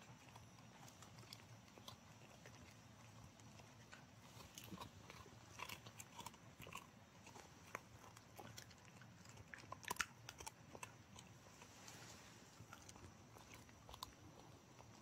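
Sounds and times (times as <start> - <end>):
dog crunching dry treat: 0.0 - 12.0, 12.6 - 15.0.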